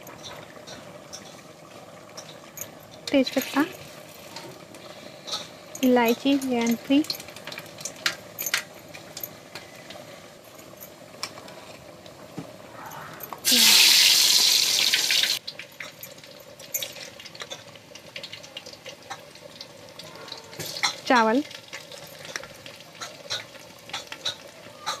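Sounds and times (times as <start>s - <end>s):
spices crackling in hot oil: 0.0s - 12.7s, 13.3s - 25.0s
onions hissing in oil: 0.5s - 12.7s, 13.4s - 25.0s.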